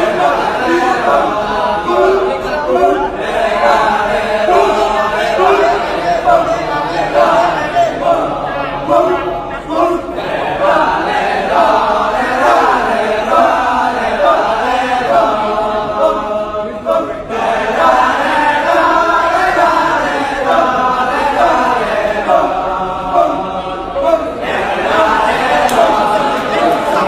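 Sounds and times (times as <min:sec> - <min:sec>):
voices chanting together: 0:00.0 - 0:27.0.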